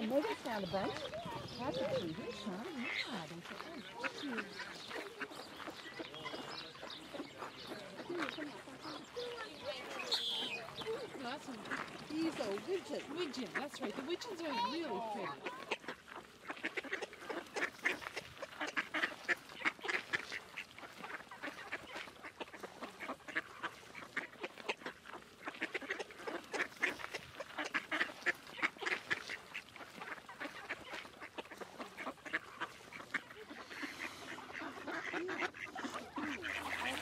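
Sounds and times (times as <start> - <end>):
ducks quacking: 0.0 - 37.0.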